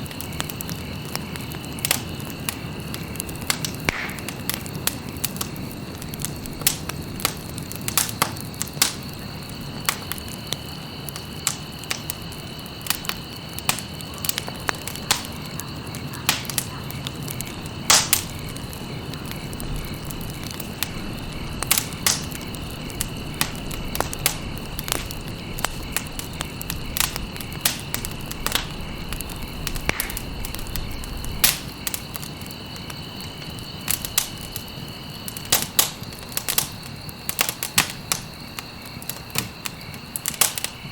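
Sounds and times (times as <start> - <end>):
fire crackling and popping: 0.0 - 40.9
soft hiss of flames: 0.0 - 40.9.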